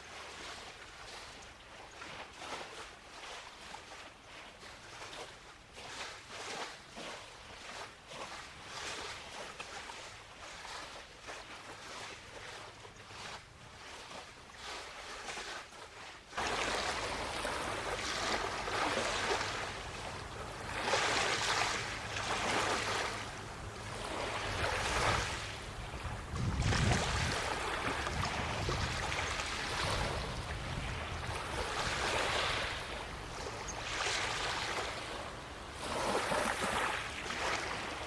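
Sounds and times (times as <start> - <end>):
waves washing on shore: 0.0 - 38.0.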